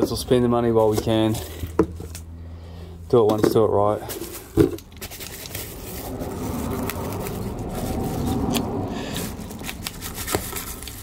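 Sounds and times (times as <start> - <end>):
packaging scraping and rustling: 0.0 - 2.3, 3.5 - 11.0.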